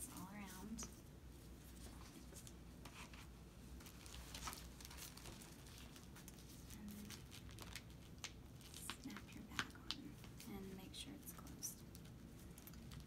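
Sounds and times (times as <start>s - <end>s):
plastic crinkling and rustling: 0.0s - 13.0s.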